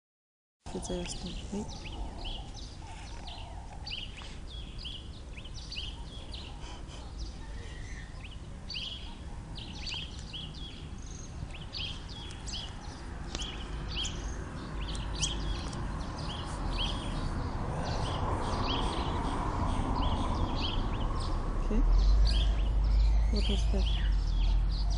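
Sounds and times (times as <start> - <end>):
birds chirping: 0.7 - 24.9.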